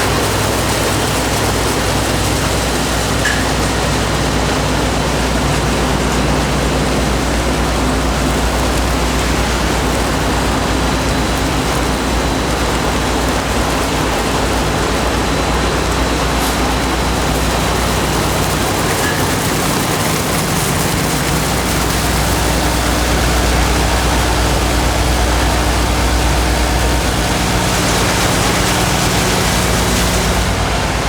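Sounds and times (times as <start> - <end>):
factory machinery running: 0.0 - 31.0.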